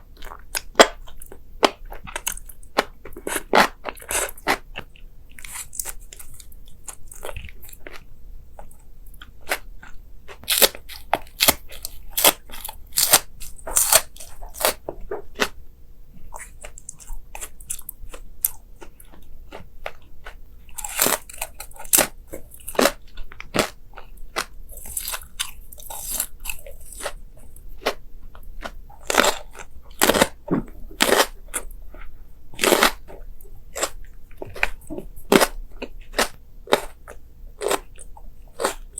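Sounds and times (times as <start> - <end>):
crunchy bites and chewing: 0.0 - 15.6, 16.3 - 38.9.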